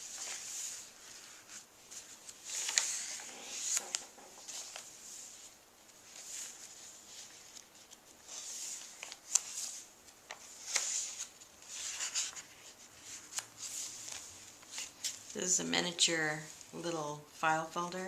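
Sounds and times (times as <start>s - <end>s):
paper pages rustling: 0.0s - 15.5s.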